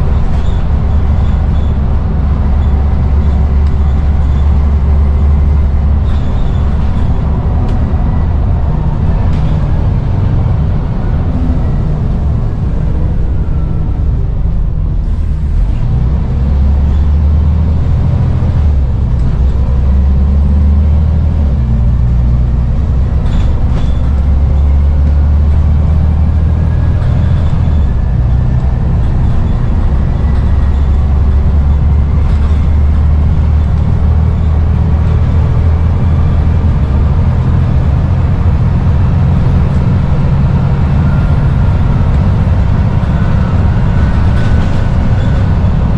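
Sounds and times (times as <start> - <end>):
bus diesel engine rumbling: 0.0 - 45.9.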